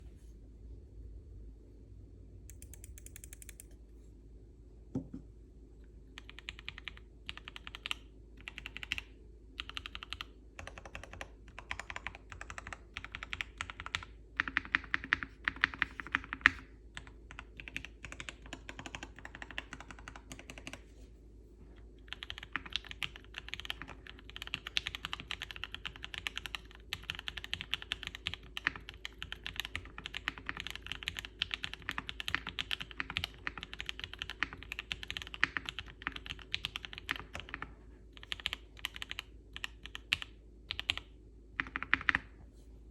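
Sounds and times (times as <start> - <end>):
mechanical keyboard typing: 2.5 - 3.8, 6.2 - 20.8, 22.1 - 42.3.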